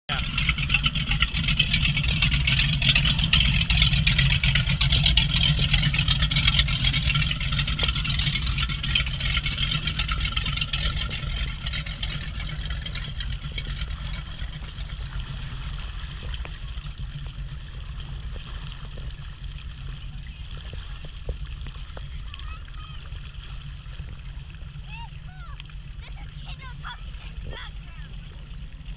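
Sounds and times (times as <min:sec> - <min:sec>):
motorboat engine running: 0:00.1 - 0:28.9.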